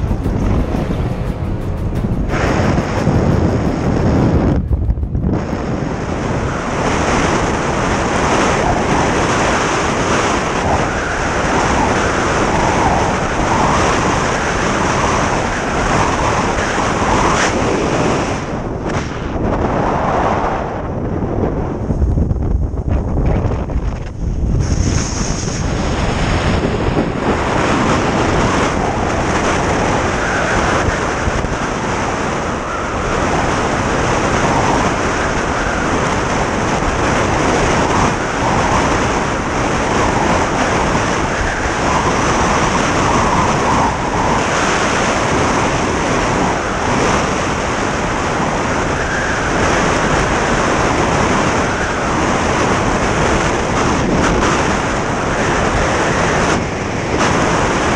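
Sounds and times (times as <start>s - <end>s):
strong wind buffeting microphone: 0.0s - 57.9s.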